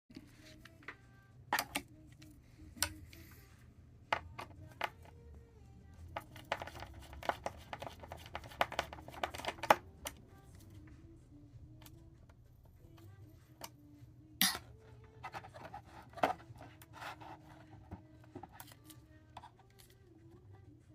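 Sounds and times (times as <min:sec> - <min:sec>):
faint music: 0:00.1 - 0:20.9.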